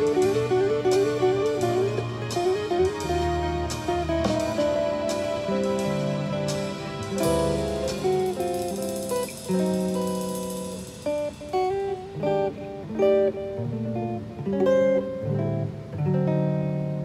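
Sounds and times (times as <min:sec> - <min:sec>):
jazz guitar ballad: 0:00.0 - 0:17.0.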